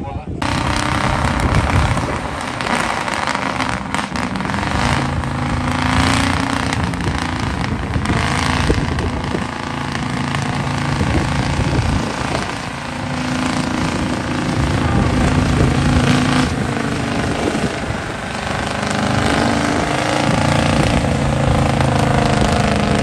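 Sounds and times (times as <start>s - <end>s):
off-road truck engine under load: 0.0s - 23.0s.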